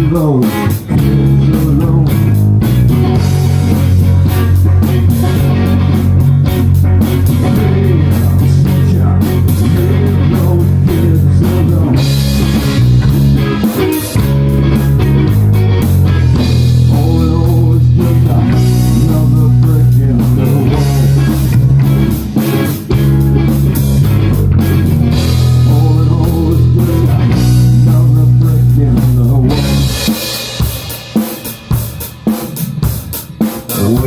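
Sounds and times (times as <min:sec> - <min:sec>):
drums: 0:00.0 - 0:34.0
electric guitar: 0:00.0 - 0:34.0
low bass line: 0:00.9 - 0:30.2.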